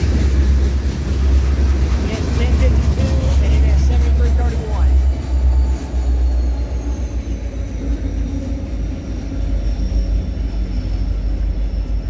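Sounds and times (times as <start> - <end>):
train cars rumbling on rails: 0.0 - 12.0.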